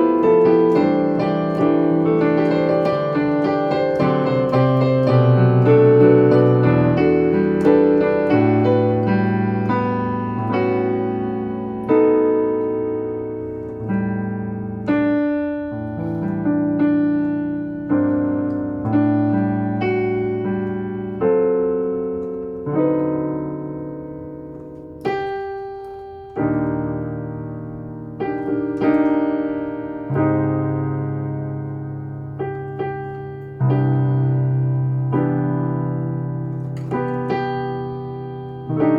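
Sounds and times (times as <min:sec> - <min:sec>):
slow jazz piano chords: 0:00.0 - 0:38.9.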